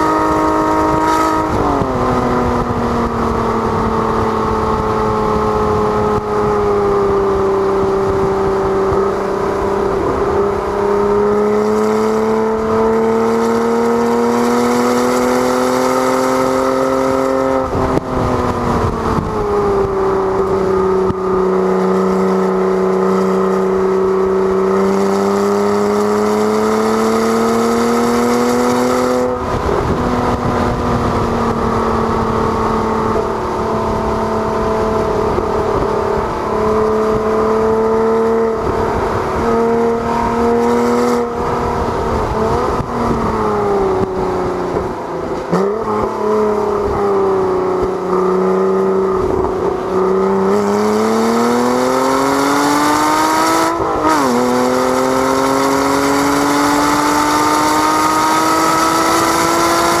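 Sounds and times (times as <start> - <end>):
car engine revving: 0.0 - 60.0
wind noise: 0.0 - 60.0.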